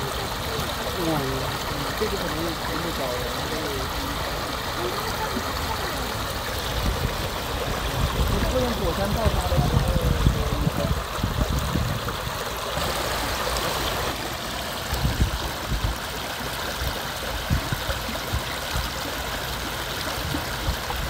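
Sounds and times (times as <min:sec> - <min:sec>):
stream water rushing and trickling: 0:00.0 - 0:21.0.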